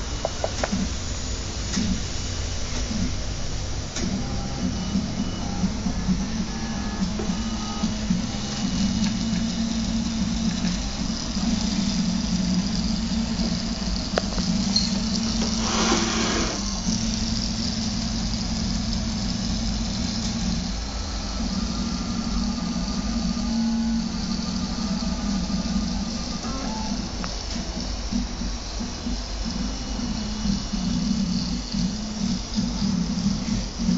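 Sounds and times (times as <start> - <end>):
printer stepper motors humming: 0.0 - 33.9
stepping motor tones: 0.0 - 33.9.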